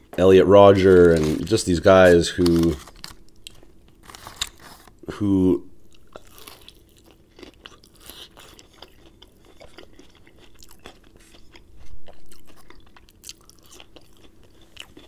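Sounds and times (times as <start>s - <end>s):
crunching fried batter: 0.6s - 5.1s, 6.0s - 15.0s.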